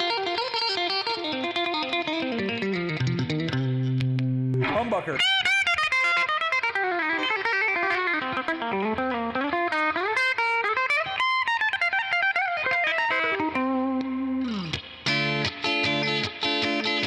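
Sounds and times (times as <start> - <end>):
electric guitar lead with string bends: 0.0 - 17.0.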